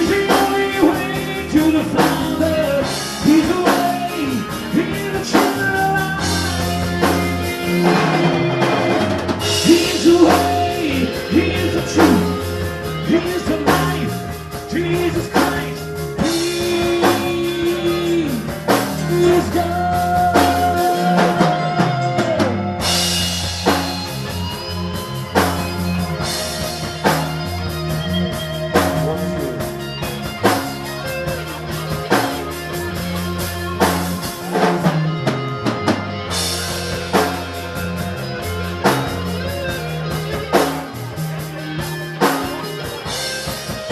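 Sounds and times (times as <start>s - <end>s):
drum kit beat: 0.0s - 43.9s
rock band playing: 0.0s - 43.9s.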